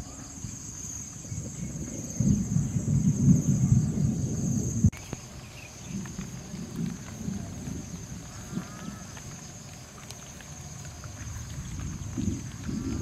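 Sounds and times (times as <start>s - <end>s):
insects chirring: 0.0s - 13.0s
low rumbling noise: 0.0s - 13.0s.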